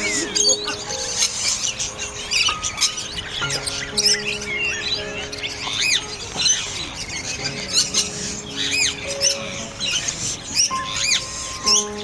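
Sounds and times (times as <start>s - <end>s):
background music sustained notes: 0.0s - 12.0s
high arching bird chirps: 0.0s - 12.0s.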